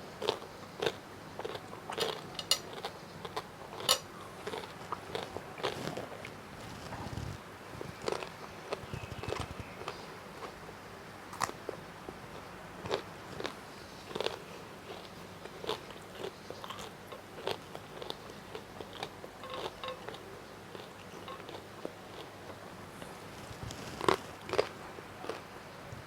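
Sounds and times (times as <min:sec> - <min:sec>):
person crunching food: 0:00.2 - 0:10.6, 0:12.9 - 0:22.4, 0:23.3 - 0:25.5
wet chewing: 0:00.2 - 0:10.6, 0:12.9 - 0:25.5.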